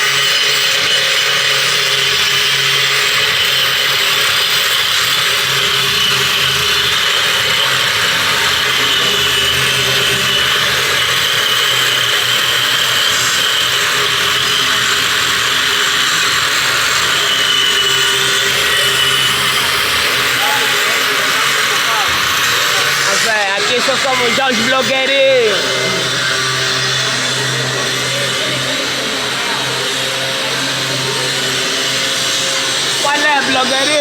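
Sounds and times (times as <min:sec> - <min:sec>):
power tool whining: 0:00.0 - 0:34.0.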